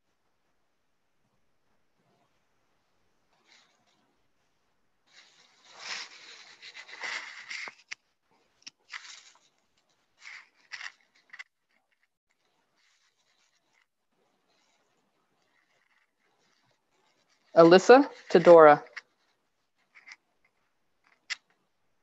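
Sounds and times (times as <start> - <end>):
rustling and scraping on microphone: 3.2 - 21.5.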